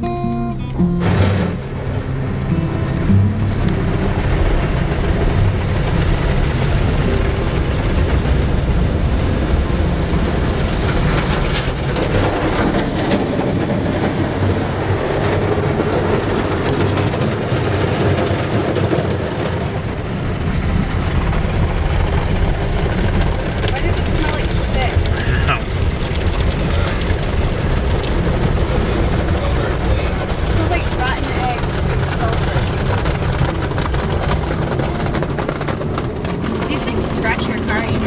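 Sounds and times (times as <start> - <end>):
car wash rumble and hiss: 0.0 - 38.0.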